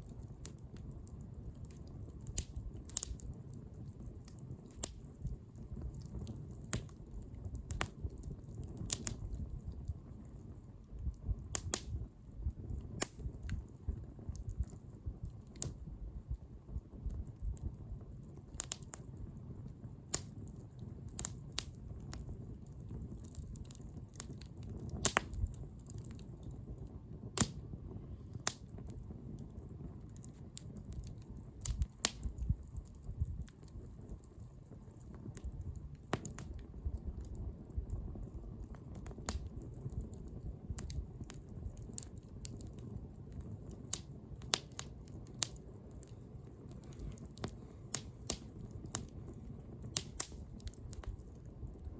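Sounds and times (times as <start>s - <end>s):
fire crackling and popping: 0.0s - 51.9s
fire low rumble: 0.0s - 51.9s.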